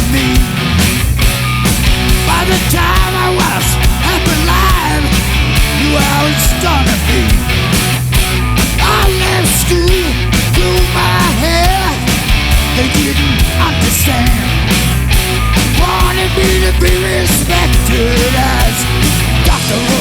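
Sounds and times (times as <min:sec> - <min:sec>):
bending lead guitar line: 0:00.0 - 0:20.0
hard rock music: 0:00.0 - 0:20.0.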